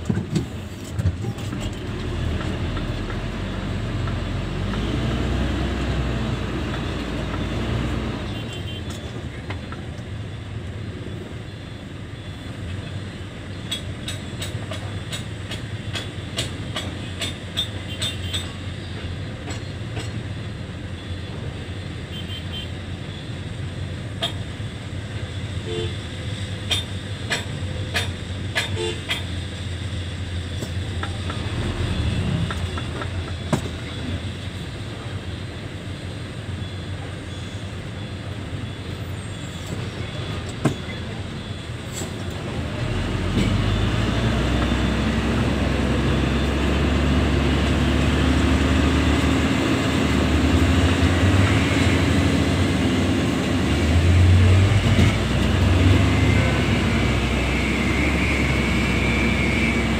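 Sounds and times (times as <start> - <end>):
diesel truck engine rumbling: 0.0 - 22.1, 22.8 - 59.9.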